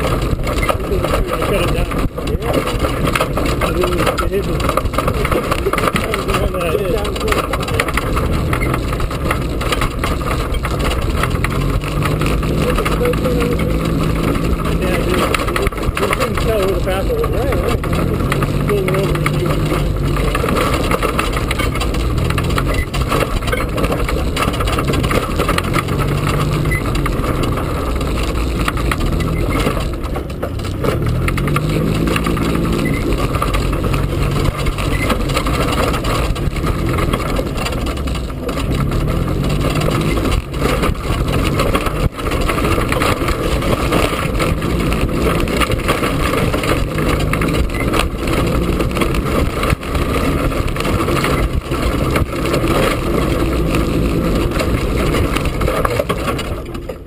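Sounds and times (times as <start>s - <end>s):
golf cart motor running: 0.0s - 57.0s.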